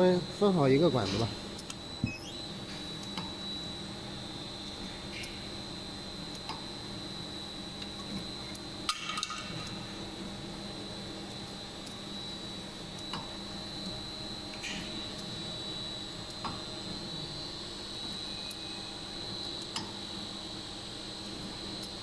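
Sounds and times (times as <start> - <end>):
machinery humming with high whine: 0.0 - 22.0.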